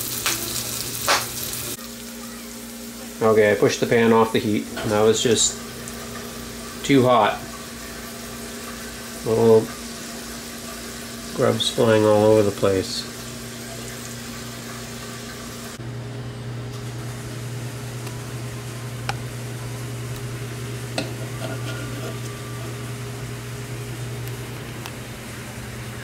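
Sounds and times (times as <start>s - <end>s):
grubs sizzling in butter: 0.0s - 15.8s, 16.7s - 23.2s
steady hum: 2.6s - 26.0s.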